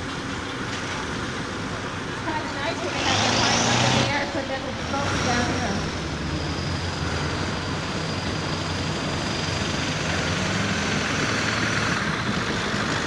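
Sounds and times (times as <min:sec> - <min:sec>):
truck engine at full throttle: 0:00.0 - 0:13.0.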